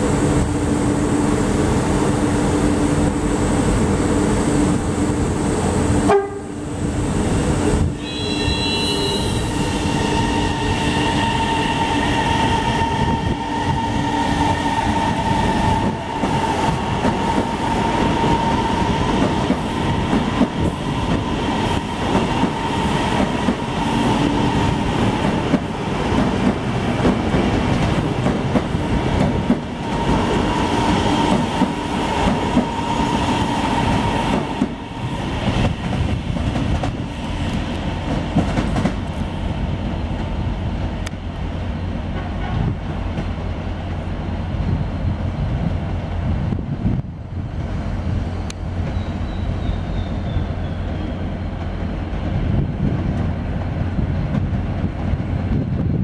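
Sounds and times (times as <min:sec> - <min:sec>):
high train whine: 0:00.0 - 0:56.0.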